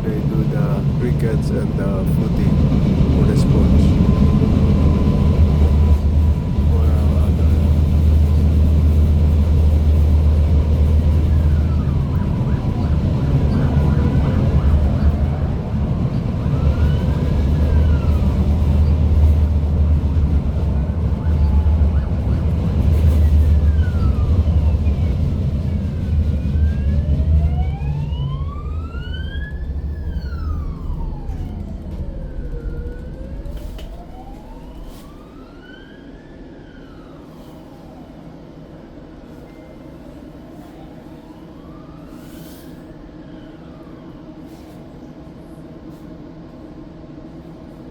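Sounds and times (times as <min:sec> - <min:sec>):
emergency siren wailing: 0:00.0 - 0:39.0, 0:40.4 - 0:44.4
tram rumbling: 0:00.0 - 0:47.9.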